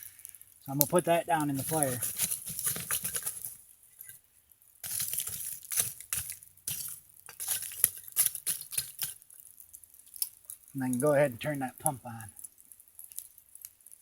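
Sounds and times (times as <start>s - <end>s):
charcoal clinking and rattling: 0.0s - 4.2s, 4.8s - 14.0s.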